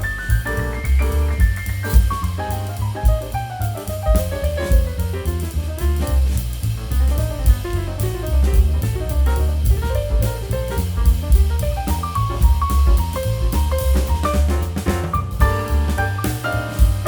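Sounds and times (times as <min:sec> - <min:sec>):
music with heavy bass and drums: 0:00.0 - 0:17.0.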